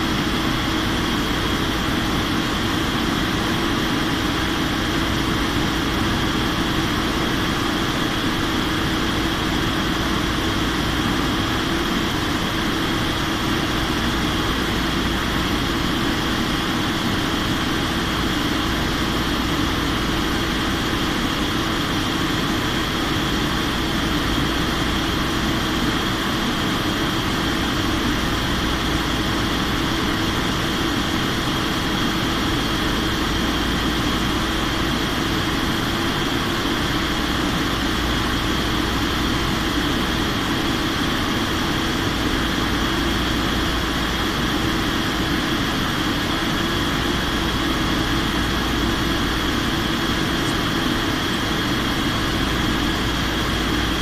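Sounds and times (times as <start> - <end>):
airliner engines droning: 0.0 - 54.0.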